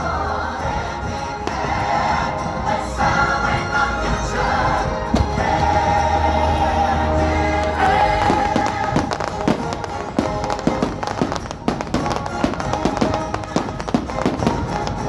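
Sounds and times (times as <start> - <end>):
soundtrack music: 0.0 - 15.0
fireworks bursting: 1.0 - 15.0.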